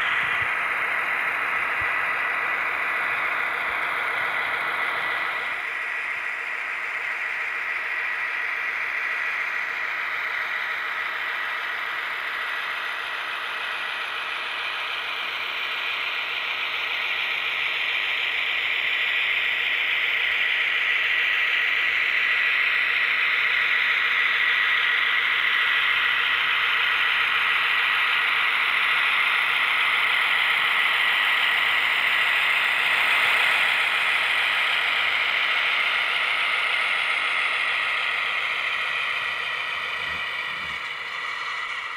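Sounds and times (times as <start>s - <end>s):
model train whirring: 0.0s - 41.9s.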